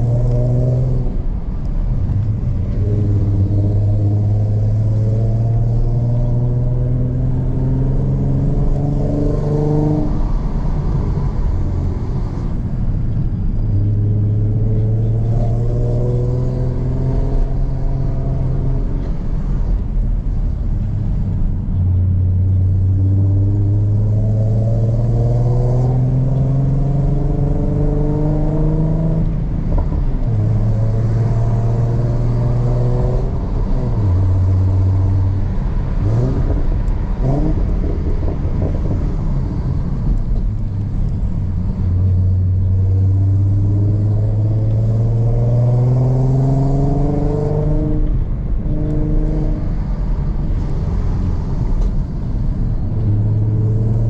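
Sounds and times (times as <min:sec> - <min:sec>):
car engine revving: 0:00.0 - 0:54.0
road noise rumble: 0:00.0 - 0:54.0.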